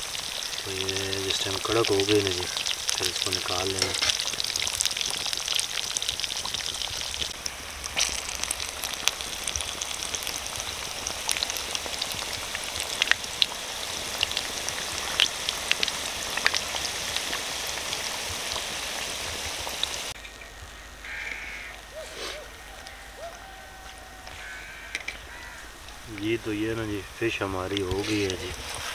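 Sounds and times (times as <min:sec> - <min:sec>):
food deep-frying in oil: 0:00.0 - 0:20.4, 0:24.4 - 0:28.9.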